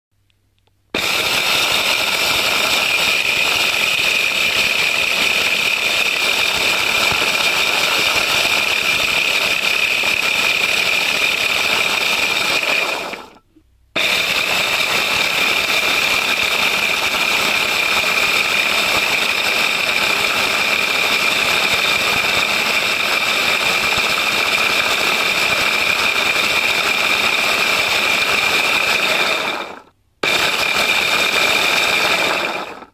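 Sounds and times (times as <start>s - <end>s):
blender motor whine: 1.0s - 13.4s, 14.0s - 32.9s.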